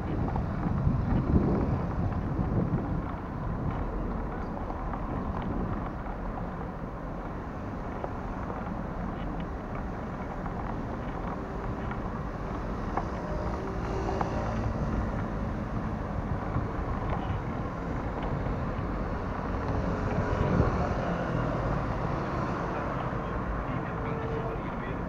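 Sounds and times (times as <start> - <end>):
passing cars: 0.0 - 25.0.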